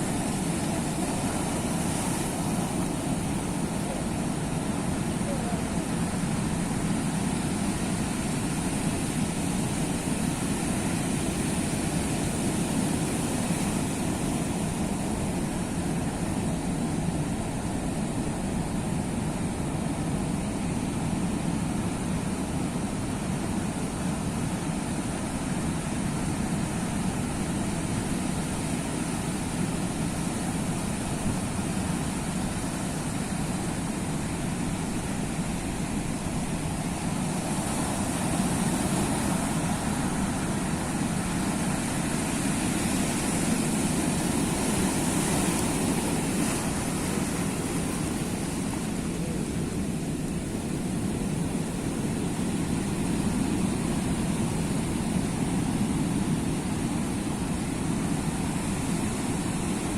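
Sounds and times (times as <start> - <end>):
sea surf washing: 0.0 - 59.9.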